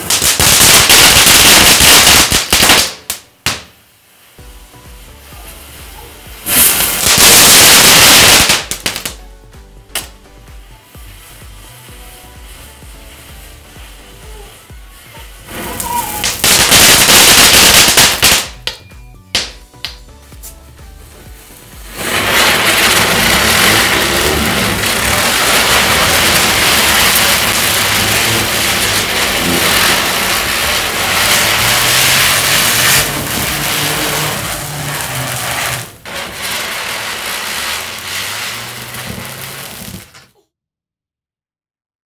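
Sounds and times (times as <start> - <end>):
firework fizzing hiss: 0.0 - 18.8, 19.4 - 40.3.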